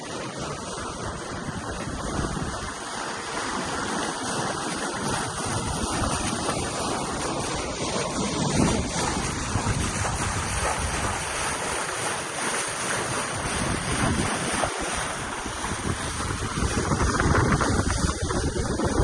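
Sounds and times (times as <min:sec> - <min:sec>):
waves and water rushing: 0:00.0 - 0:19.0
wind buffeting microphone: 0:00.0 - 0:19.0.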